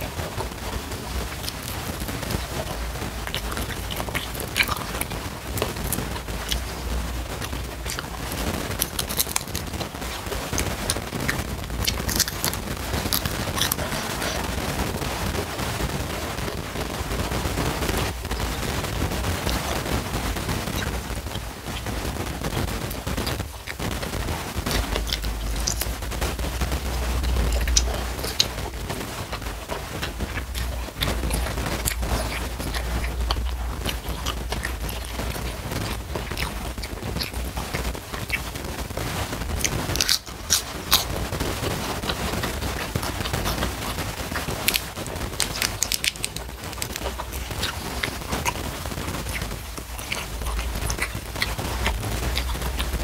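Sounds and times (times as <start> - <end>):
chewing rice: 0.0 - 53.0
crackling clicks: 0.0 - 53.0
crunching raw lettuce: 0.0 - 53.0.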